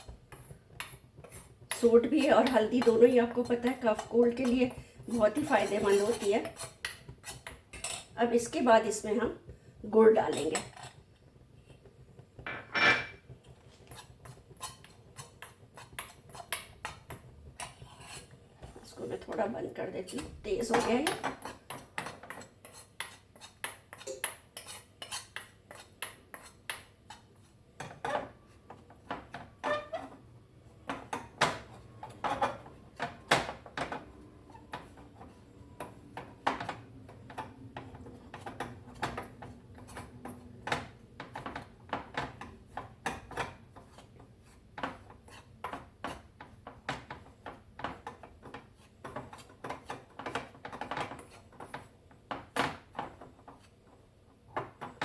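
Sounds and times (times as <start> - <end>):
metal spoon scraping a pan: 0.0 - 9.0, 10.2 - 11.0, 12.5 - 52.0.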